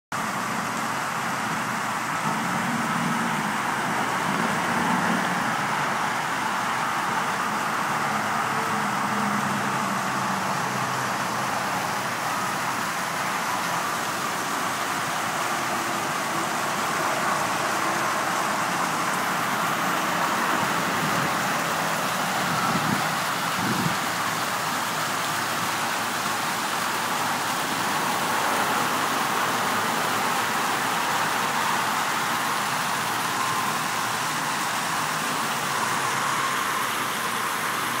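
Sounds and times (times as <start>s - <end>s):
rushing splashing water: 0.1s - 38.0s.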